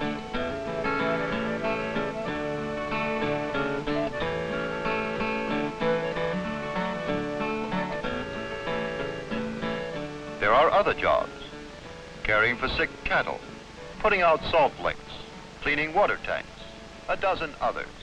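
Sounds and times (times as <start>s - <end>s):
plucked guitar music: 0.0s - 18.0s.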